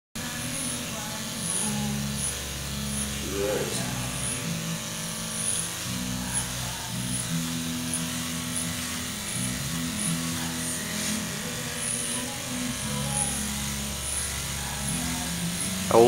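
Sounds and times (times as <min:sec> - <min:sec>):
electric hair clippers buzzing: 0:00.2 - 0:16.0.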